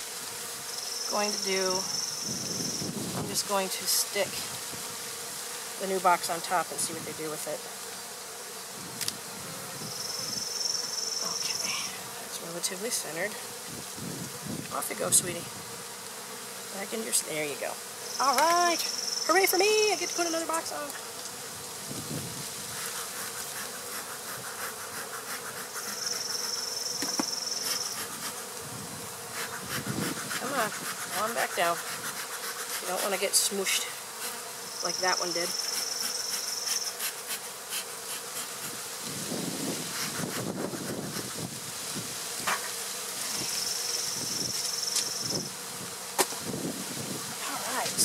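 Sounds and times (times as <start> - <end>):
honey bees buzzing: 0.0 - 48.0.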